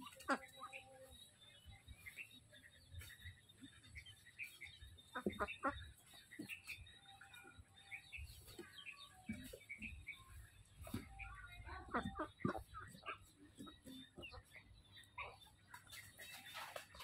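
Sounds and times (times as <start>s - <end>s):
poultry peeping: 0.0s - 17.0s.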